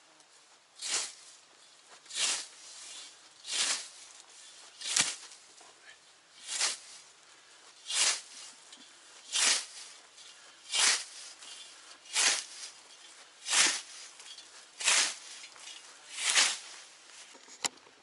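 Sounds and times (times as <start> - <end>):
scythe swishing through grass: 0.8 - 5.6, 6.3 - 17.3.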